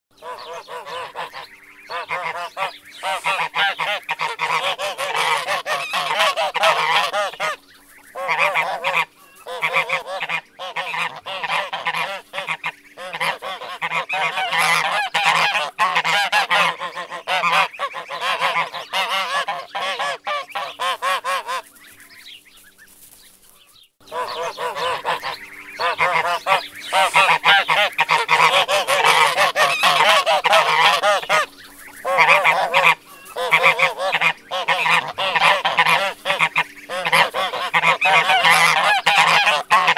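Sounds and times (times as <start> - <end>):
geese honking: 0.1 - 23.0, 24.0 - 39.9.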